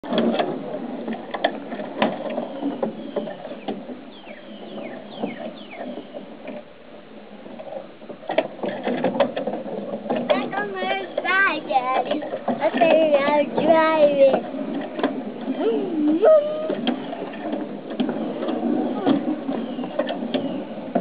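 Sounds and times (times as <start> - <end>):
bicycle rattling on wooden deck: 0.0 - 6.3, 8.1 - 21.0.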